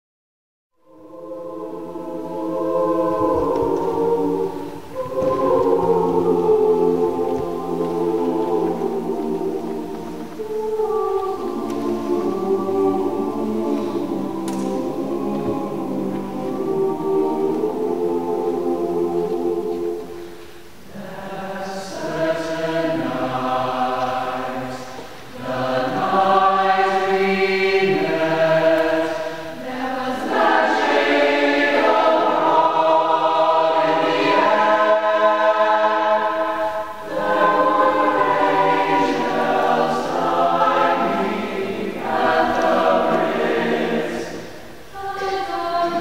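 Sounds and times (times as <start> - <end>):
mixed choir singing a cappella: 0.8 - 46.0.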